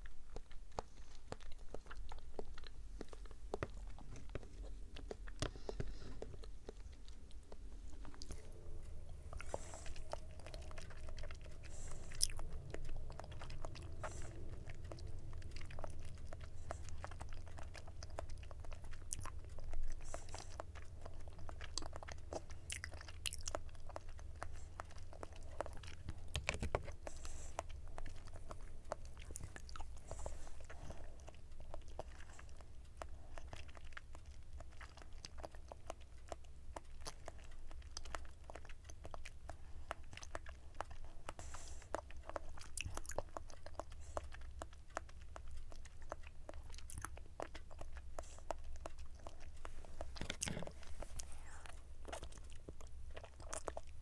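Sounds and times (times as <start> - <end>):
person chewing jelly balls: 0.0 - 54.0.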